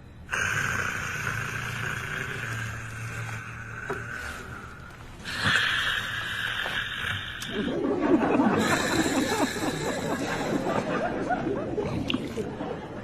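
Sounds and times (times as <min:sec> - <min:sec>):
person snoring: 0:00.3 - 0:10.9.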